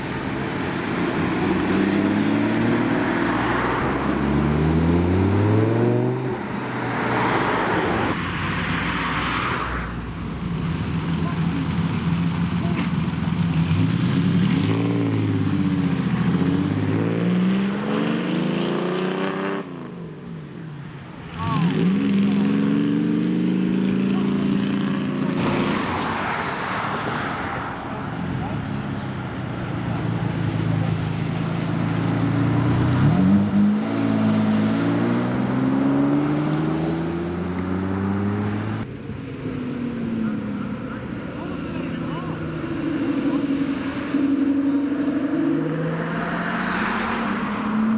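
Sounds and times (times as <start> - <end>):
car engine at low speed: 0.0 - 47.9.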